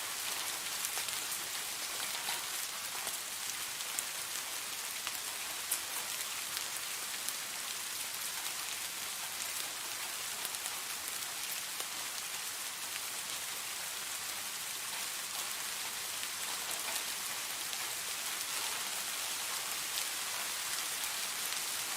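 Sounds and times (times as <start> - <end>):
steady rain hiss: 0.0 - 21.9
raindrops ticking on hard surface: 0.1 - 21.9.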